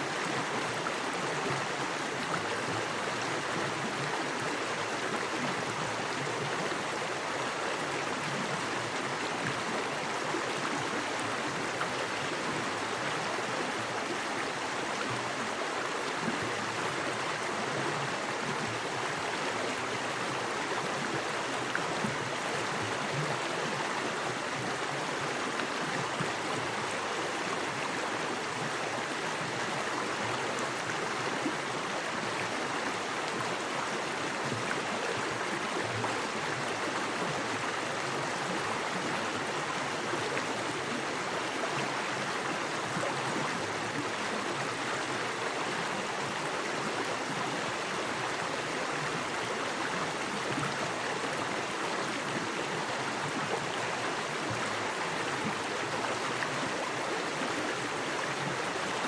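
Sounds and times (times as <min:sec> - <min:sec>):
creek rushing over rocks: 0:00.0 - 0:59.0.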